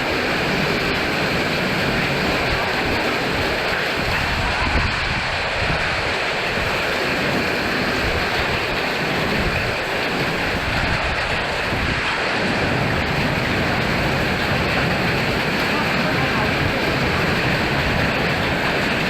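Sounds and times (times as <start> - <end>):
hail falling: 0.0 - 19.0
strong wind blowing: 0.0 - 19.0
wind buffeting microphone: 0.0 - 19.0.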